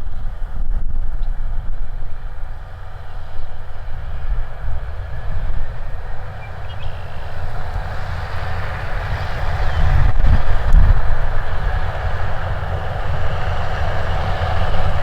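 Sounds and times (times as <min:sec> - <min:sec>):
combine engine rumble: 0:00.0 - 0:15.0.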